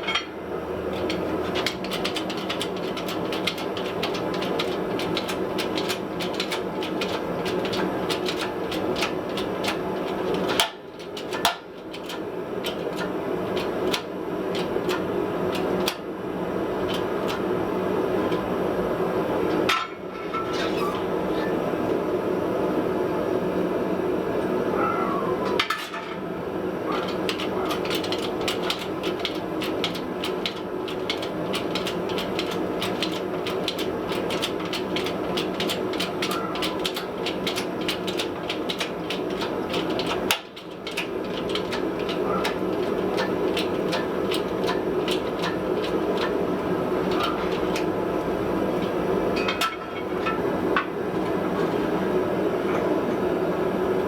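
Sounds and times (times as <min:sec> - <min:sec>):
steady background noise: 0:00.0 - 0:54.0.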